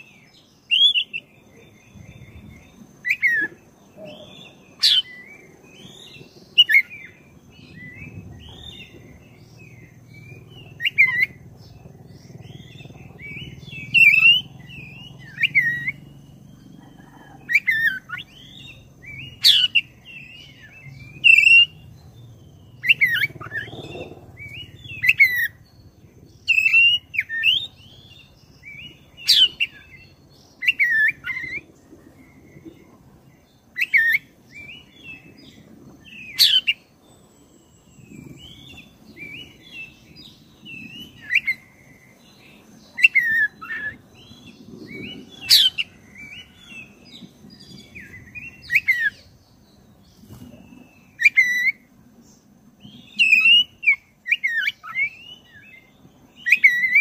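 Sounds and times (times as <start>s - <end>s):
bird singing whistles and chirps: 0.0s - 57.0s.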